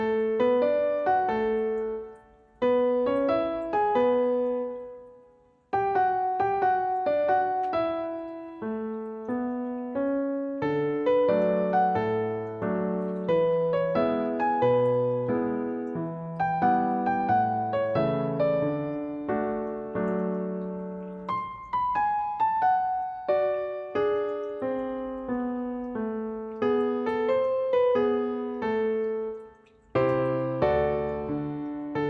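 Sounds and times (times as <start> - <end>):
gentle piano melody: 0.0 - 32.0.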